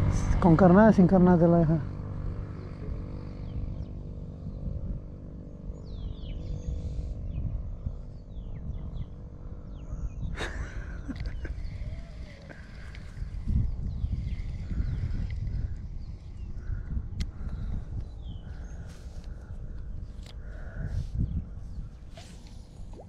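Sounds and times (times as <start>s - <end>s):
low rumbling noise: 0.0s - 23.0s
steady low hum: 0.0s - 23.0s.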